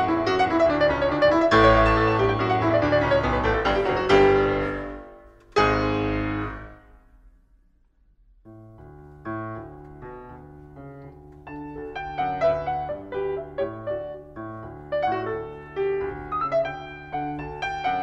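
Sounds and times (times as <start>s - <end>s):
piano music: 0.0s - 7.0s, 8.5s - 18.0s.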